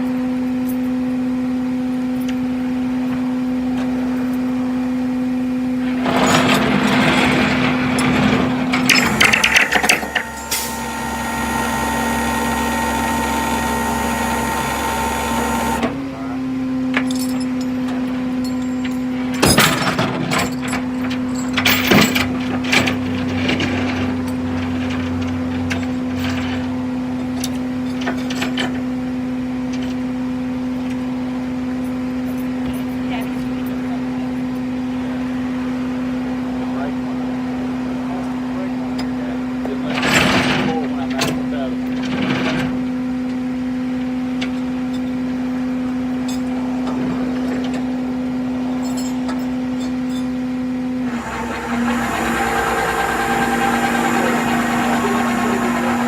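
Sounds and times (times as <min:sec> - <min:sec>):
steady mechanical hum: 0:00.0 - 0:56.0
tow truck engine and winch drone: 0:00.0 - 0:56.0.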